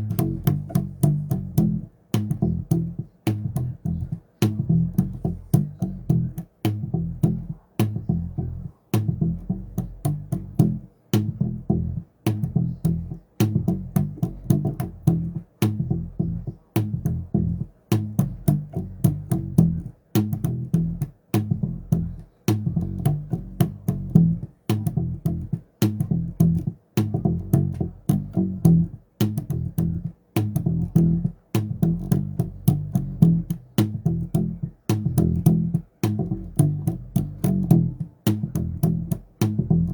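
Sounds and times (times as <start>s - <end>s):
bass guitar plucking: 0.0s - 39.9s.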